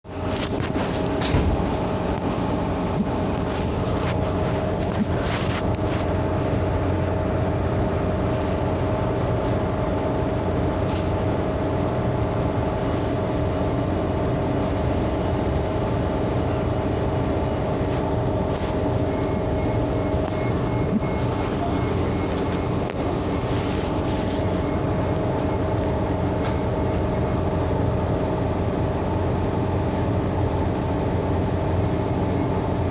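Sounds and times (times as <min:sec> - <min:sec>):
constant hum: 0:00.0 - 0:32.9
vehicle running rumble: 0:00.0 - 0:32.9.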